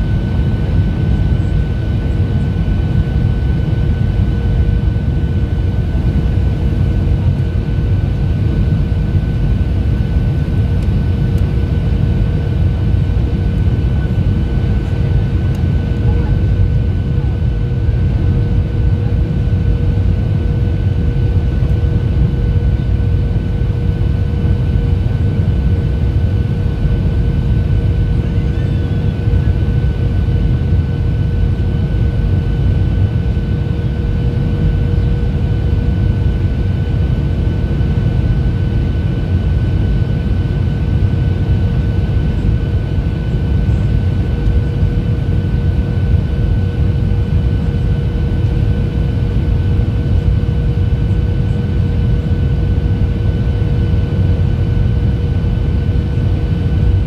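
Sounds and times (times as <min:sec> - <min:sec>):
airliner cabin engine rumble: 0:00.0 - 0:57.0
high engine whine: 0:00.0 - 0:57.0.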